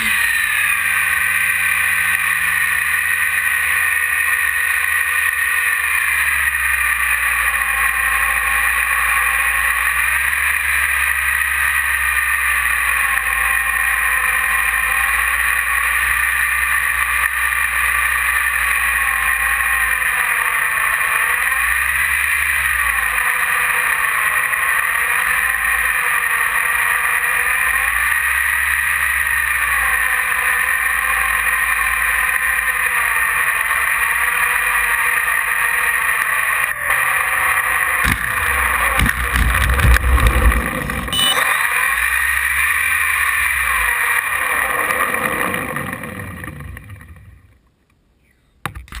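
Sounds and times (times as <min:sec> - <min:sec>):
electric motor and propeller whining: 0:00.0 - 0:47.6.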